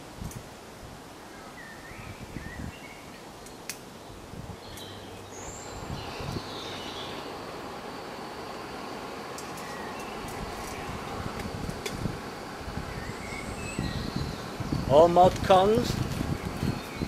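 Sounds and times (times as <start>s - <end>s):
steady outdoor hiss: 0.0s - 17.0s
birds chirping: 1.2s - 17.0s.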